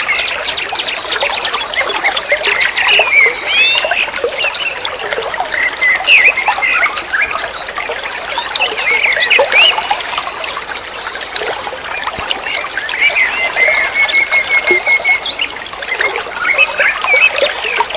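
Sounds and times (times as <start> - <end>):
songbird singing: 0.0 - 11.2, 12.2 - 17.9.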